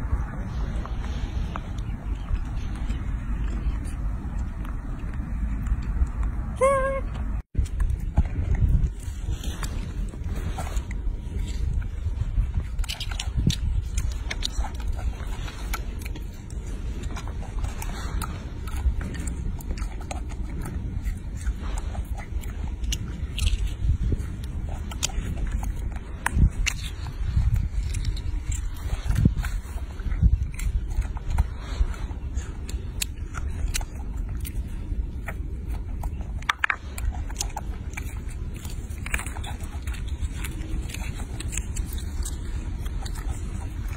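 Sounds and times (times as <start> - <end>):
monkey chewing fruit: 0.0 - 43.9
steady low rumble: 0.0 - 43.9
small clicks and crunches: 7.5 - 43.9.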